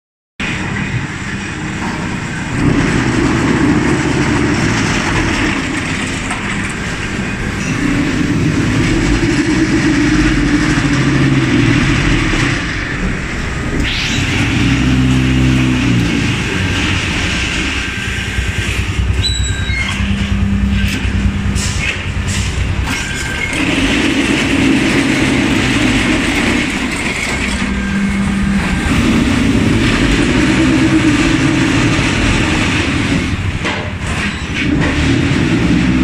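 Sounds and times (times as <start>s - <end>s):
low machine hum: 0.4s - 34.1s
machine mechanical drone: 0.4s - 36.0s.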